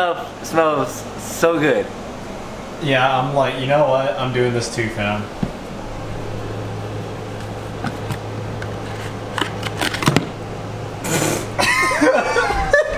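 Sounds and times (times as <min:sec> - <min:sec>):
low mechanical hum: 0:00.0 - 0:12.9.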